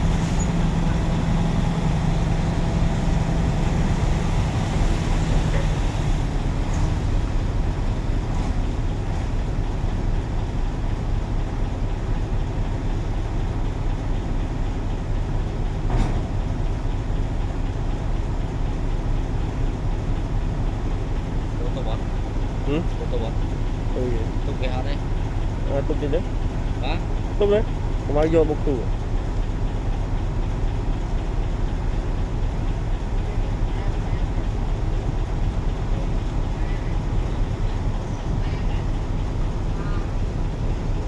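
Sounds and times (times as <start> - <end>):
road noise: 0.0 - 41.0
truck engine drone: 0.0 - 41.0.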